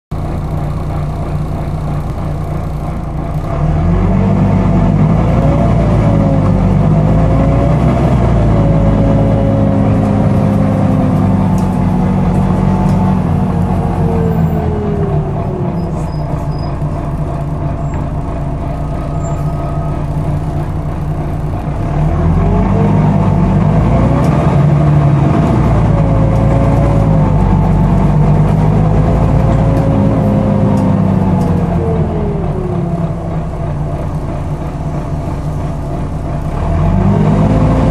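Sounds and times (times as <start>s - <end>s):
bus engine running: 0.1s - 37.9s.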